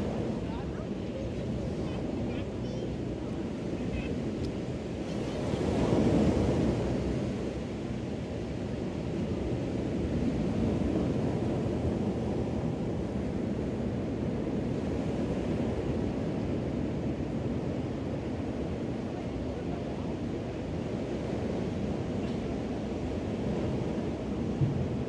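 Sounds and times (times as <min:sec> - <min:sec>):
small waves washing on beach: 0:00.0 - 0:25.0.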